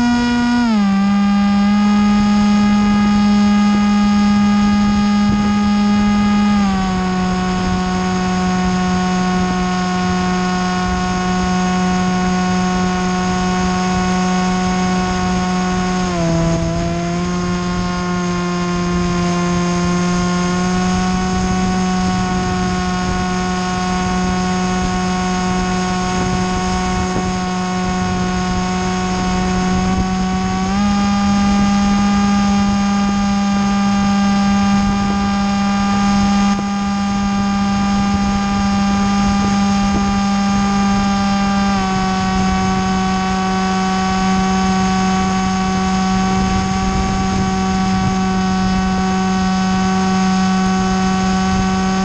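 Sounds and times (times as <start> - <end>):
model aircraft motor whining: 0.0 - 52.0.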